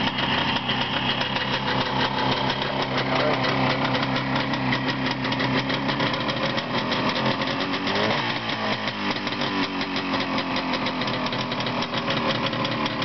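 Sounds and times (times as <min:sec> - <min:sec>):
two-stroke motorcycle engine running: 0:00.0 - 0:13.0.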